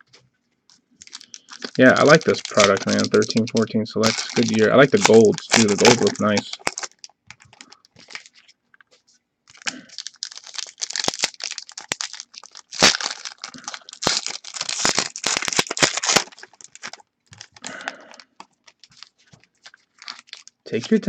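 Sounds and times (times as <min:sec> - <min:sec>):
plastic wrapping crinkling and tearing: 0:01.0 - 0:08.6, 0:09.5 - 0:21.0.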